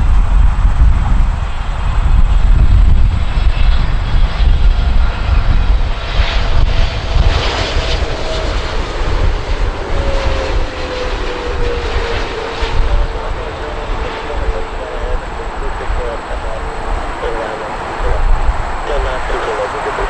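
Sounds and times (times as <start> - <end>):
airliner engines passing: 0.0 - 20.0.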